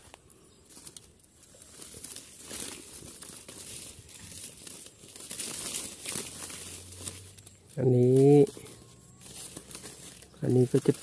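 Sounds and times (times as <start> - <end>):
leaves rustling and crinkling: 0.0 - 11.0.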